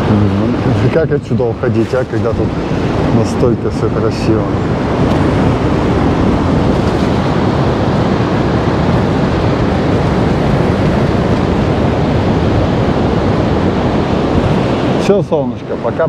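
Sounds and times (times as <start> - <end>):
stormy sea surf: 0.0 - 16.0
wind blowing across microphone: 0.0 - 16.0.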